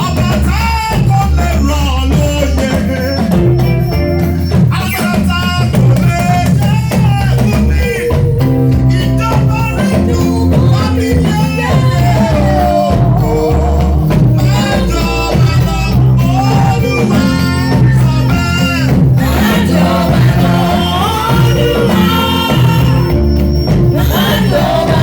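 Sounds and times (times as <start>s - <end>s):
bass guitar: 0.0s - 25.0s
drums: 0.0s - 25.0s
person singing: 0.0s - 25.0s.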